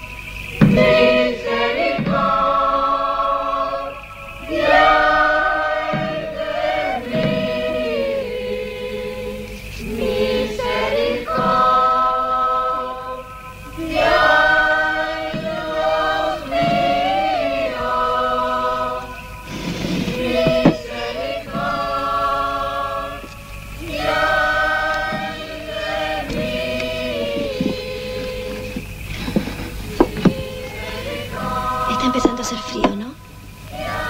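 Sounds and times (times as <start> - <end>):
choir singing held chords: 0.0 - 34.0.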